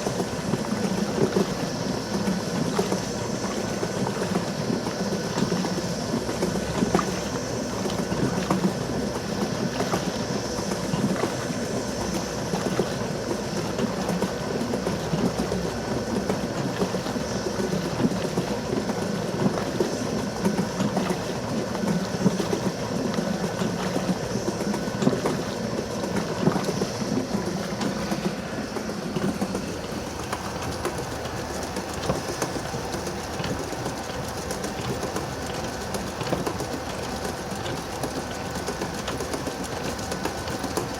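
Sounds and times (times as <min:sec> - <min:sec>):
motor hum: 0:00.0 - 0:40.9.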